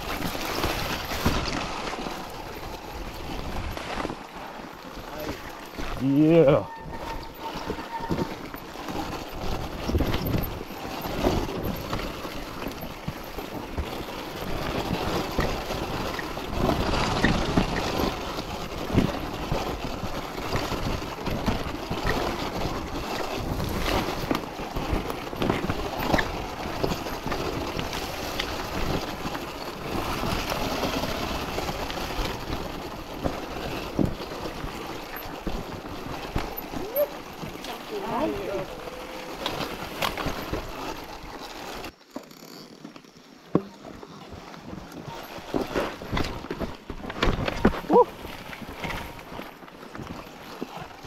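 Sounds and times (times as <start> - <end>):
electric dirt bike running: 0.0 - 42.5.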